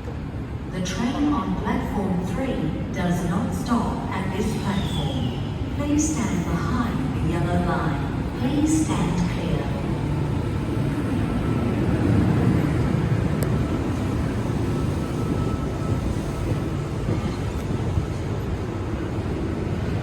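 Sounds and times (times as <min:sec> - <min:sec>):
electric train rumble: 0:01.5 - 0:20.0.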